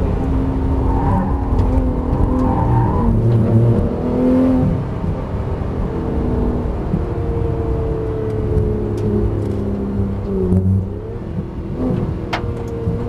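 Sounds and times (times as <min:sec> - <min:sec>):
car engine running: 0:00.0 - 0:13.0
road noise inside car cabin: 0:00.0 - 0:13.0.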